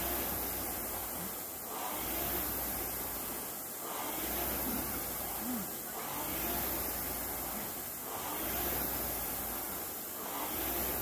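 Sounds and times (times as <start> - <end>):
rowing machine fan whooshing: 0.0 - 11.0.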